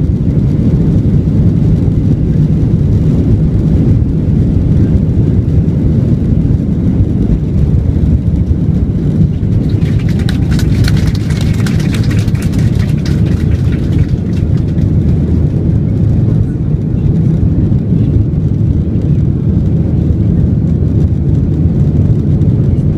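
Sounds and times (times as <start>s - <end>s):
airliner engines rumbling: 0.0s - 22.9s.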